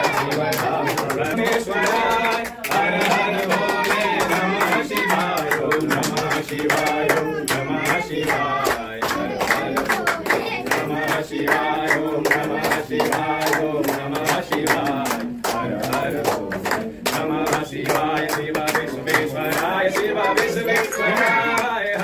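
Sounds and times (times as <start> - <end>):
group devotional singing: 0.0 - 22.0
rhythmic hand-clapping: 0.0 - 22.0.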